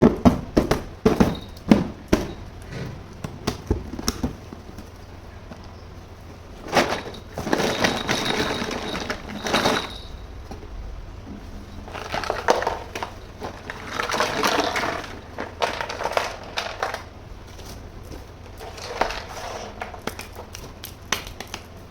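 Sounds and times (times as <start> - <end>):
rustling: 0.0 - 21.9.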